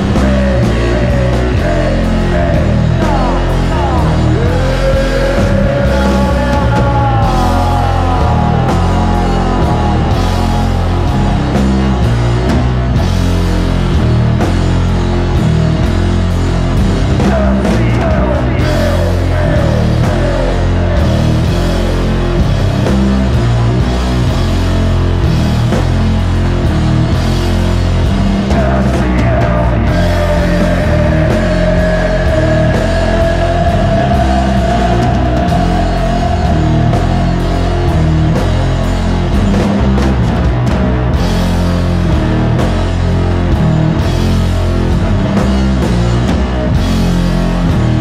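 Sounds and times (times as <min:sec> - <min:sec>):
loud rock music: 0:00.0 - 0:48.0.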